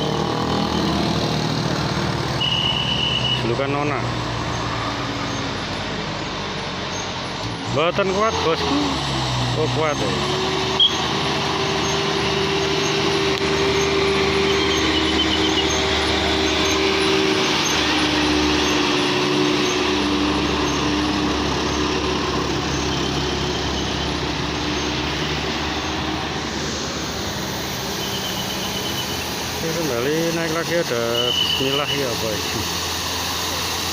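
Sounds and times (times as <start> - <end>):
heavy vehicle engine labouring: 0.0 - 33.9.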